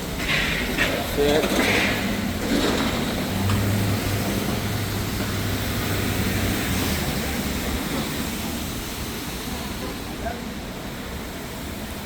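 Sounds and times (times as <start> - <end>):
traffic hiss on wet road: 0.0 - 12.0.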